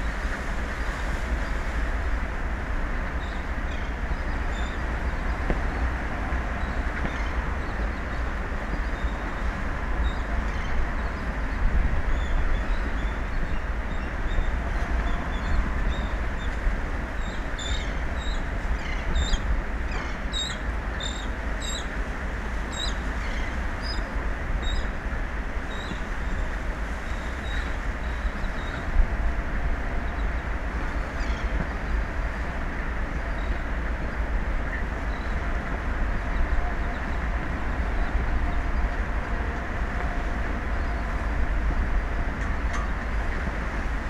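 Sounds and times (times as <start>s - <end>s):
ocean noise: 0.0s - 44.0s
wind: 0.0s - 44.0s.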